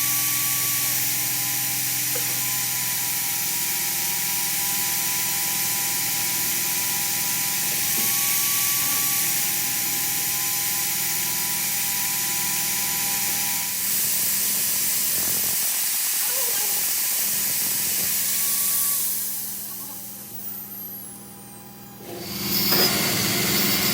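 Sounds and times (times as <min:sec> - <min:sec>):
power tool whining: 0:00.0 - 0:23.9.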